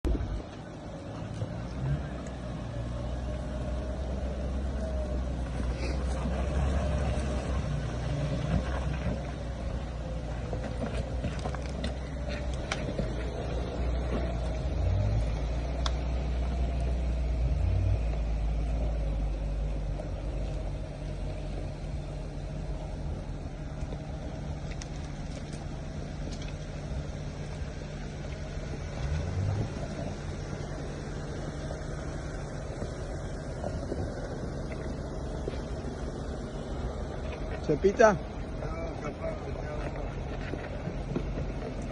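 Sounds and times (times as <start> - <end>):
car engine driving off-road: 0.0 - 41.9.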